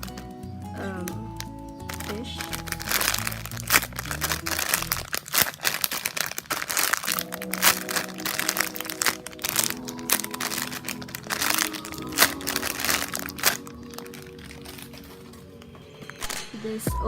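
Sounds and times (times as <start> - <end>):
light background music: 0.0 - 17.0
squishy toy crinkling: 1.0 - 15.8.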